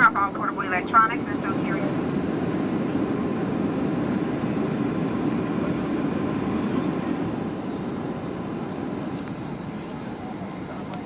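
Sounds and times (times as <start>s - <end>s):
airplane cabin engine rumble and hiss: 0.0s - 11.0s.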